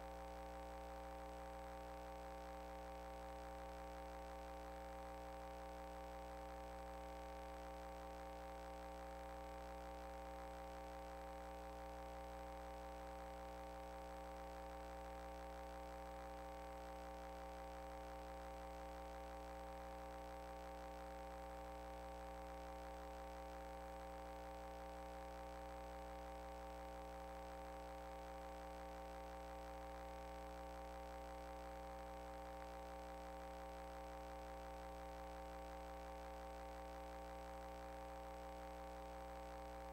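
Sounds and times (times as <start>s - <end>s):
steady hum with tones: 0.0s - 39.9s.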